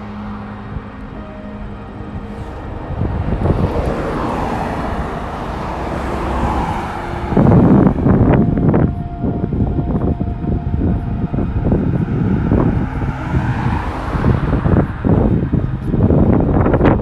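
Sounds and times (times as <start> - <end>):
deep traffic rumble: 0.0 - 17.0
vehicle passing: 0.0 - 17.0.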